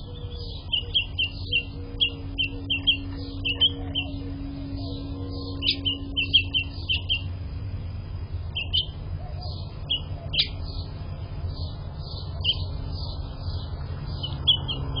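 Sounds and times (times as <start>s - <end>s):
finches chirping: 0.0s - 15.0s
steady low hum: 0.0s - 15.0s.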